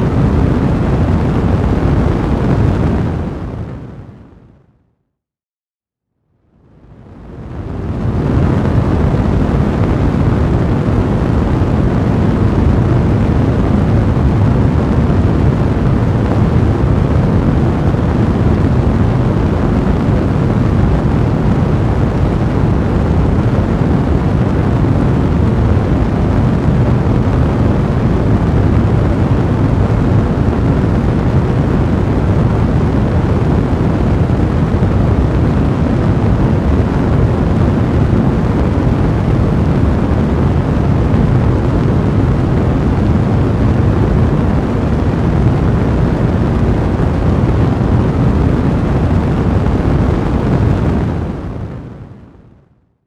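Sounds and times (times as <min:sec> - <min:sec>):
fireplace fire burning: 0:06.9 - 0:52.0.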